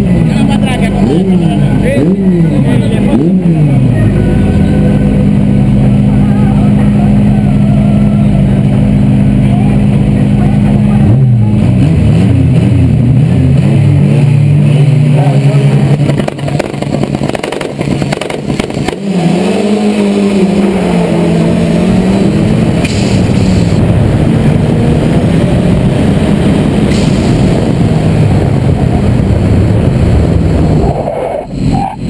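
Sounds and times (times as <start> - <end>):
drag car engine revving: 0.0 - 32.0.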